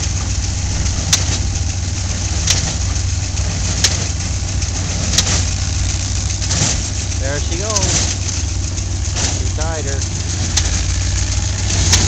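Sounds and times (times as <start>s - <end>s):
hay baler engine droning: 0.0s - 12.0s.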